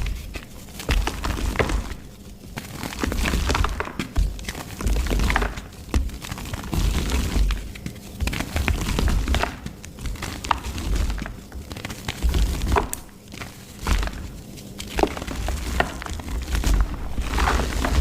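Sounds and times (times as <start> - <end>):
mud crunching and cracking: 0.0 - 18.0.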